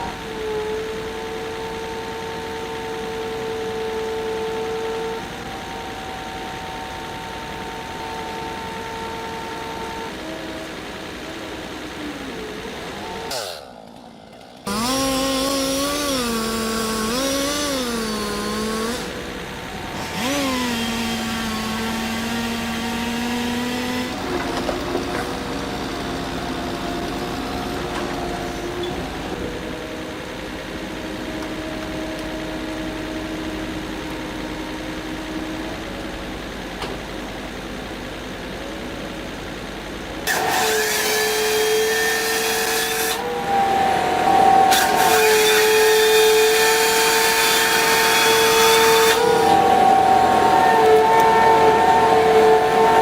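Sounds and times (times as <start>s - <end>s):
tree-cutting motor revving: 0.0s - 53.0s.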